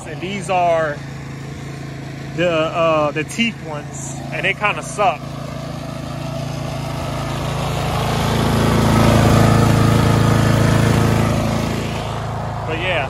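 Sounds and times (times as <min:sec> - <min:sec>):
lawn mower engine idling: 0:00.0 - 0:13.0.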